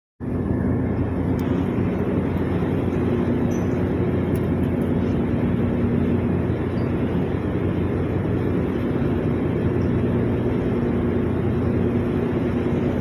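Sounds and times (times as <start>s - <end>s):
ship engine drone: 0.2s - 13.0s.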